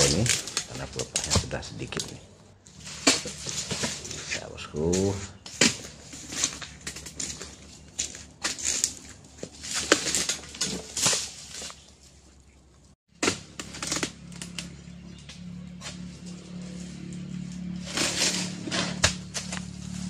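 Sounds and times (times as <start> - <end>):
pole knocking and scraping fruit: 0.0 - 11.9, 13.1 - 20.0.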